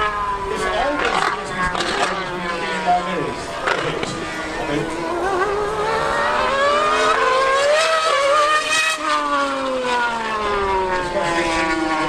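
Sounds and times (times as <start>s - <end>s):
high-revving racing engines: 0.0s - 12.0s.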